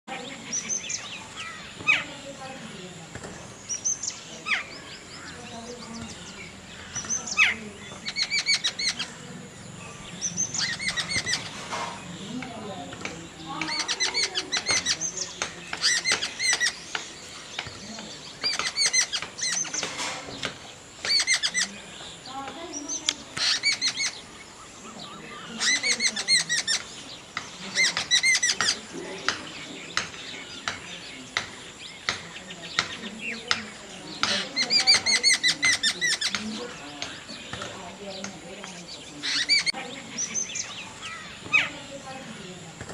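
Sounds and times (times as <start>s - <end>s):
bird calling with rapid chirps: 3.5s - 42.6s.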